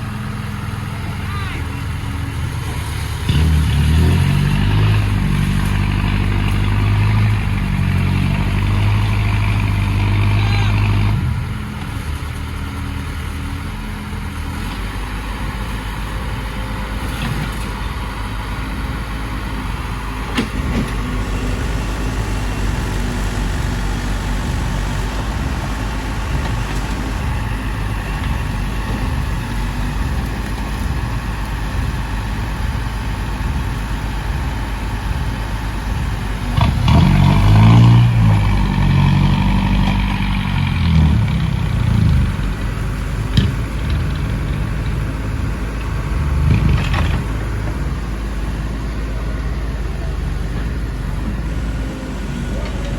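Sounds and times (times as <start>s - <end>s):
heavy diesel engine revving: 0.0s - 52.9s.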